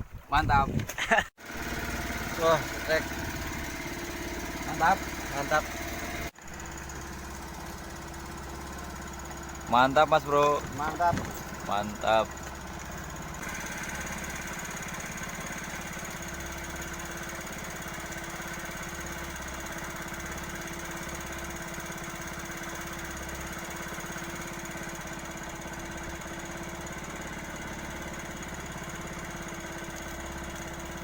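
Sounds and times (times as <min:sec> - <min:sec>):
small engine running steadily: 0:01.1 - 0:31.0.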